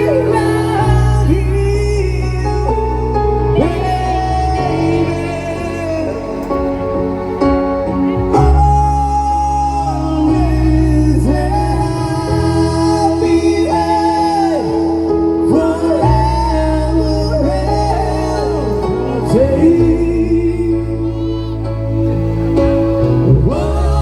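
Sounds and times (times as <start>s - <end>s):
band playing slow song: 0.0s - 24.0s
person singing: 0.0s - 24.0s.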